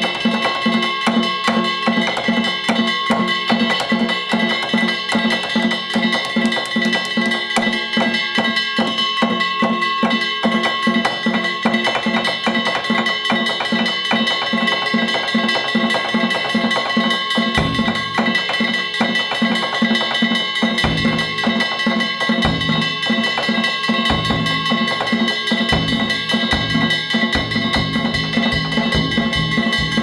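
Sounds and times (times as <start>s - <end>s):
drums beating fast rhythm: 0.0s - 30.0s
small gongs clanging: 0.0s - 30.0s.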